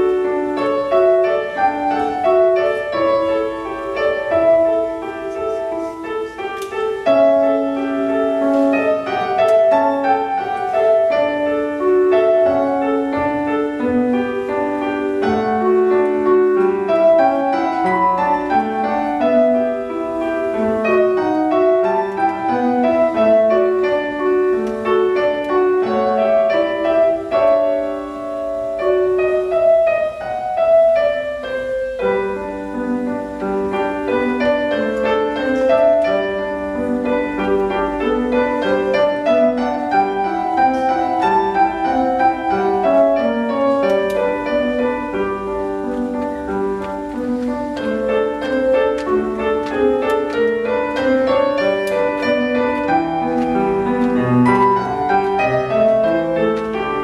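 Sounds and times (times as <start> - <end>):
solo grand piano: 0.0 - 57.0.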